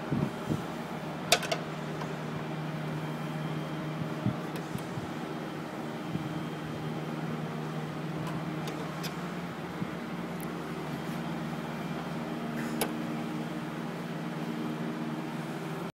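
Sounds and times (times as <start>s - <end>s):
low mechanical hum: 0.0s - 15.9s.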